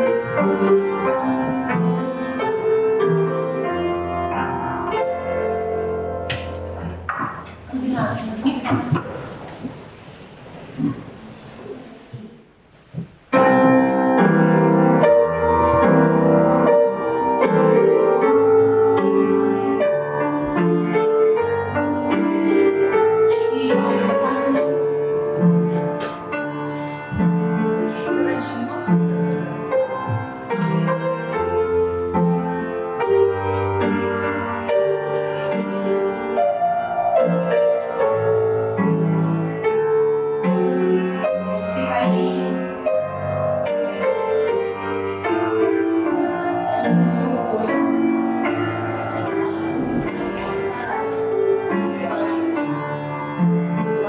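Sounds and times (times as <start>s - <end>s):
piano playing: 0.0s - 11.9s, 13.0s - 54.0s.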